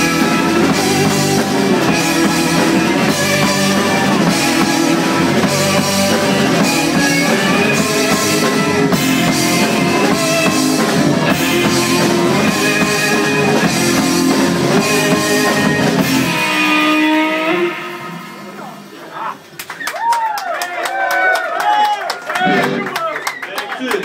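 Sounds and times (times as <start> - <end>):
drum kit: 0.0 - 19.5
live rock band playing: 0.0 - 19.5, 22.4 - 22.9.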